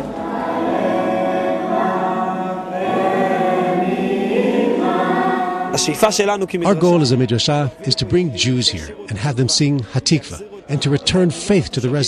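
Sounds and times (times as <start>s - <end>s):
choir singing held notes: 0.0s - 12.0s.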